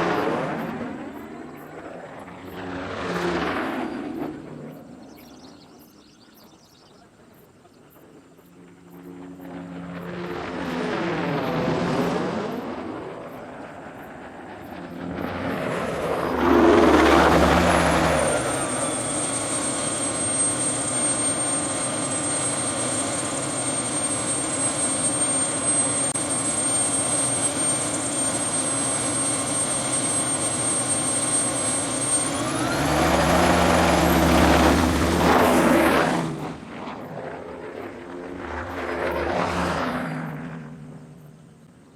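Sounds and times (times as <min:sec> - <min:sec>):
helicopter rotor noise: 0:00.0 - 0:41.9
helicopter turbine whining: 0:00.0 - 0:41.9.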